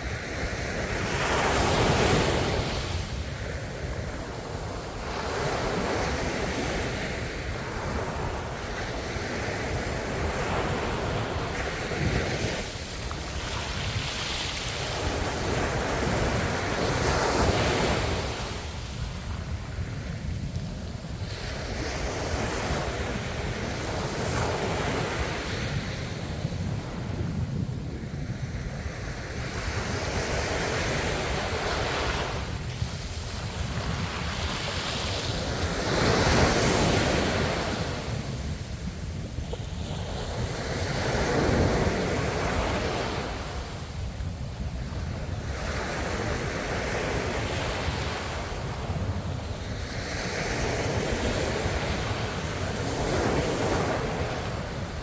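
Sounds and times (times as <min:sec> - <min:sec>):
ocean waves breaking on shore: 0:00.0 - 0:55.0
wind on microphone: 0:00.0 - 0:55.0.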